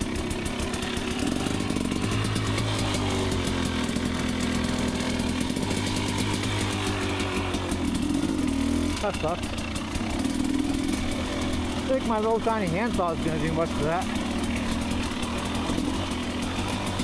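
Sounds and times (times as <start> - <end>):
two-stroke dirt bike engine: 0.0 - 17.0.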